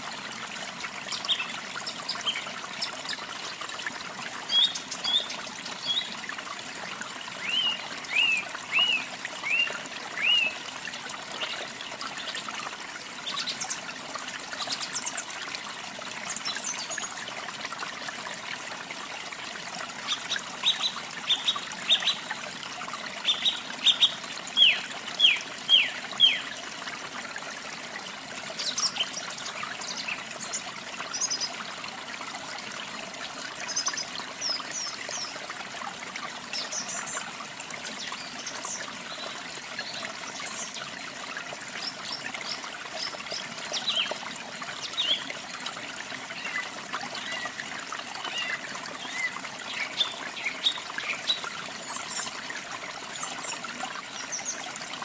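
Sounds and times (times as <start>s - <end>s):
trickling water: 0.0s - 55.0s.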